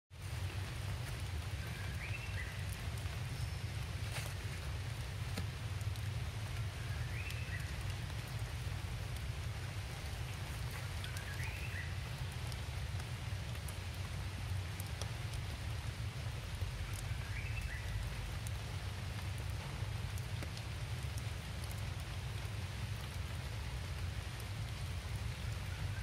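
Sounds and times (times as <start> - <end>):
rain pattering: 0.1 - 26.0.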